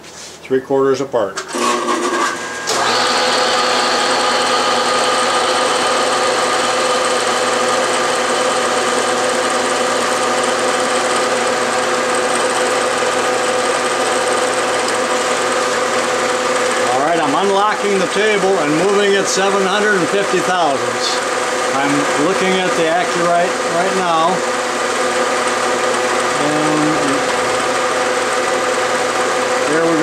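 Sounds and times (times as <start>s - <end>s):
milling machine whine drilling metal: 1.5s - 30.0s.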